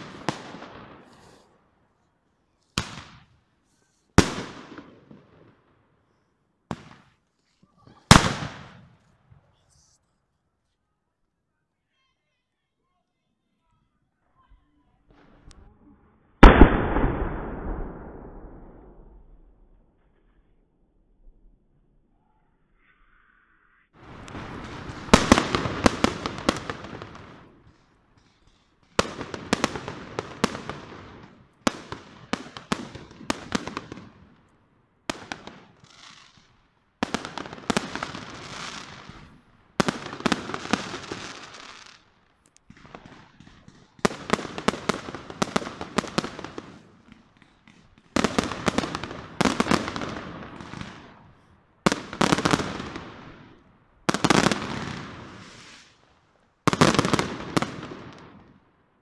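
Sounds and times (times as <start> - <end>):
fireworks bangs and crackle: 0.0 - 1.8, 2.5 - 5.9, 6.7 - 9.6, 16.4 - 20.5, 24.0 - 59.0.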